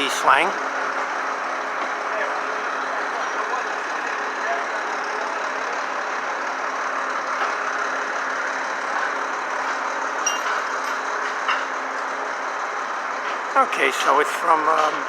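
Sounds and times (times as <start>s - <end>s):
diesel trucks idling: 0.0s - 15.0s.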